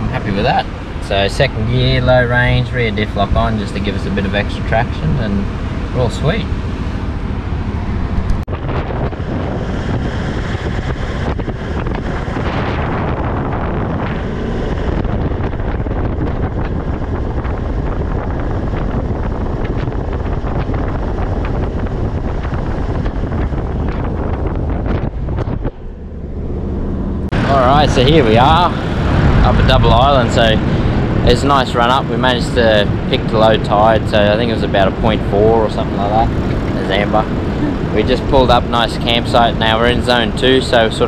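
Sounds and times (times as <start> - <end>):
vehicle engine drone: 0.0 - 41.0
wind rushing over microphone: 0.0 - 41.0.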